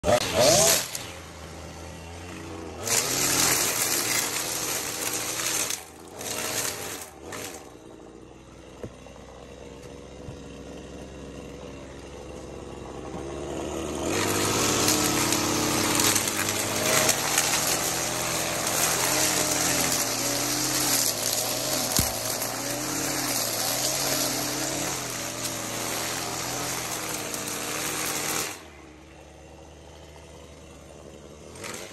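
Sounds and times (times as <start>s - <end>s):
string trimmer cutting: 0.0s - 31.9s.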